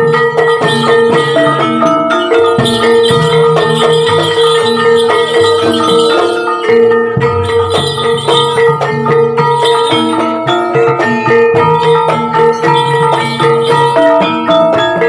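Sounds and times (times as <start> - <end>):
drums: 0.0 - 15.0
gamelan music: 0.0 - 15.0
jingling percussion: 0.0 - 15.0.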